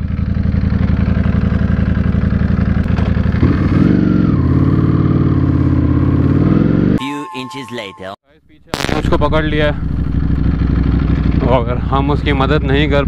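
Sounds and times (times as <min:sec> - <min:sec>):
motorcycle engine revving: 0:00.0 - 0:07.0, 0:09.1 - 0:13.0.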